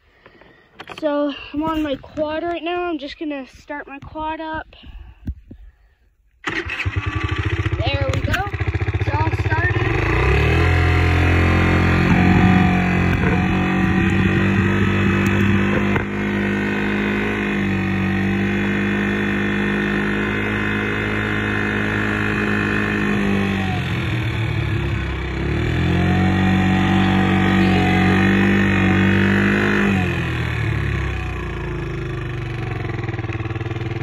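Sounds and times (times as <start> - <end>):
quad bike engine running: 6.4 - 34.0.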